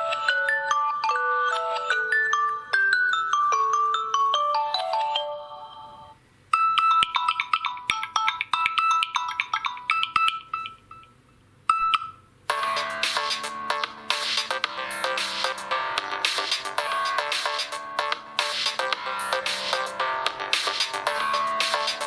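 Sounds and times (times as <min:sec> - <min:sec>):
bell-like ringtone melody: 0:00.0 - 0:11.1, 0:11.7 - 0:22.0
mallet-like ringtone tune: 0:00.0 - 0:11.1, 0:11.7 - 0:22.0
electronic ringtone with bass: 0:00.0 - 0:22.0.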